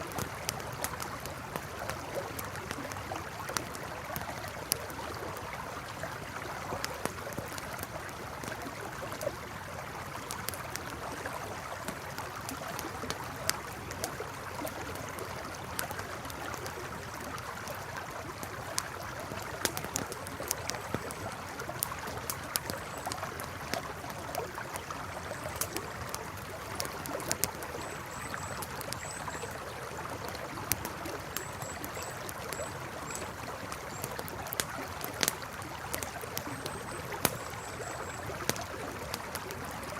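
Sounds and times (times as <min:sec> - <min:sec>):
campfire crackling: 0:00.0 - 0:39.9
river flowing: 0:00.0 - 0:39.9.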